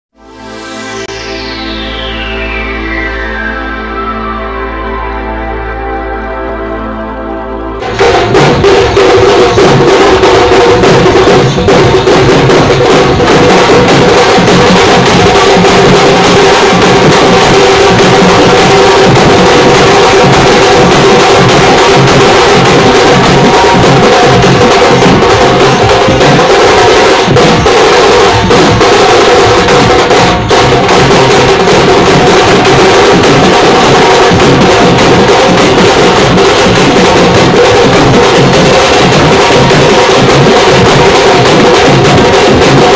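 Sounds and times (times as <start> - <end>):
steady pitched drone: 0.2 - 42.9
drums beaten with sticks: 7.8 - 42.9.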